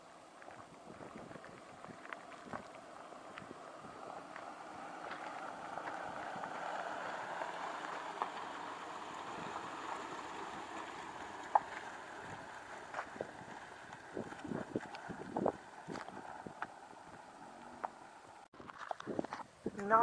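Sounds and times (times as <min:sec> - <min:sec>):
gravel clicking under tyres: 0:00.0 - 0:20.0
suv engine and tyres: 0:00.0 - 0:20.0.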